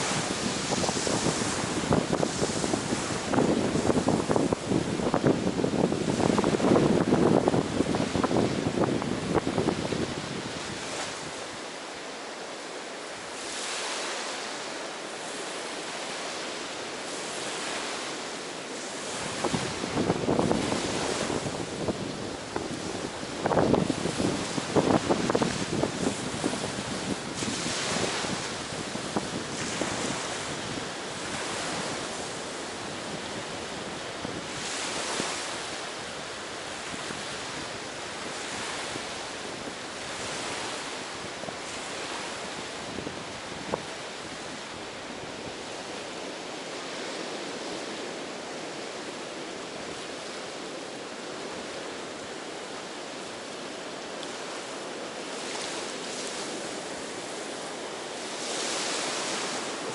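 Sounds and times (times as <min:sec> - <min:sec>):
wind buffeting microphone: 0:00.0 - 0:11.7, 0:15.3 - 0:59.9
ocean surf on beach: 0:00.0 - 0:59.9.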